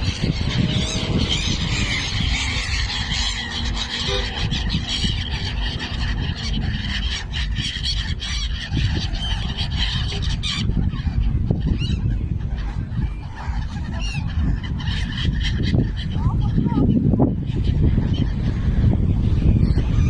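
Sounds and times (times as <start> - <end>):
flock of birds calling: 0.0 - 20.0
steady low rumble: 0.0 - 20.0.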